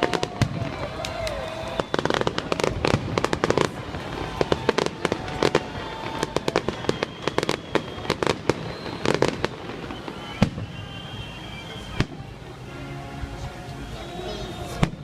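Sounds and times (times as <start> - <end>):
fireworks bangs and crackles: 0.0 - 12.7, 14.4 - 15.0.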